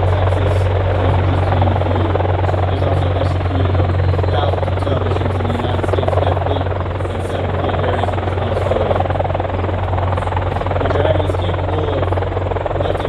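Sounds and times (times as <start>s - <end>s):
helicopter rotors beating: 0.0s - 13.0s.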